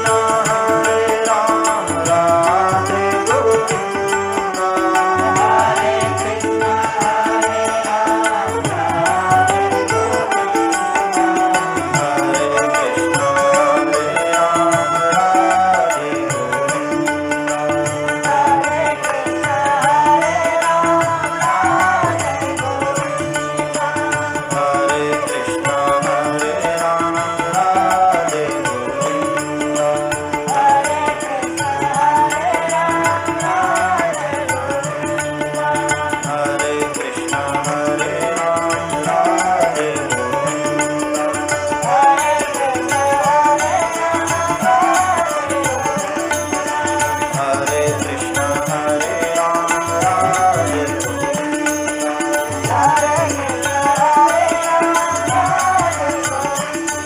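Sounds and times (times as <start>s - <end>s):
continuous percussion: 0.0s - 57.0s
devotional song with bending melody: 0.0s - 57.0s.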